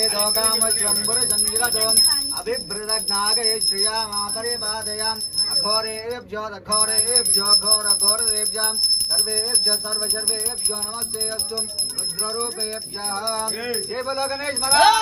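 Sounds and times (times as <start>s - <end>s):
hand bell ringing rapidly: 0.0s - 6.0s, 6.7s - 15.0s.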